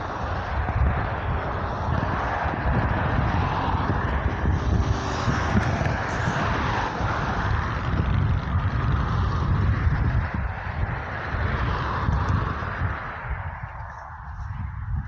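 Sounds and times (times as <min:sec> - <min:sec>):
jet engines whining: 0:00.0 - 0:14.3
wind rumbling on microphone: 0:00.0 - 0:15.0.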